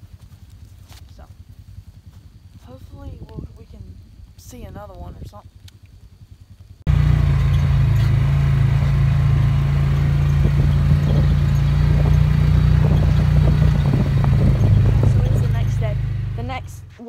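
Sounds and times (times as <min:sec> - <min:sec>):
vehicle engine running: 0:00.0 - 0:04.6, 0:05.4 - 0:17.0.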